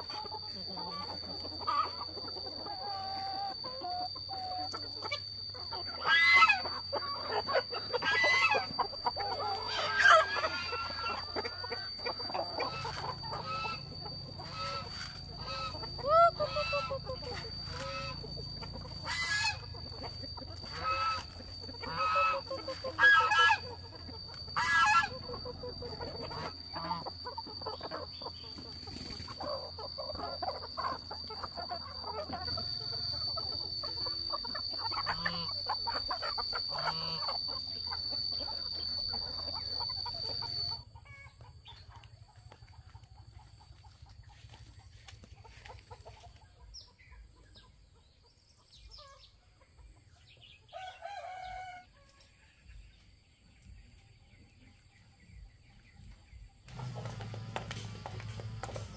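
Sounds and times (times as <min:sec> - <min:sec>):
high-pitched whine: 0:00.0 - 0:46.9, 0:50.7 - 0:58.9
chickens clucking and squawking: 0:00.0 - 0:58.9.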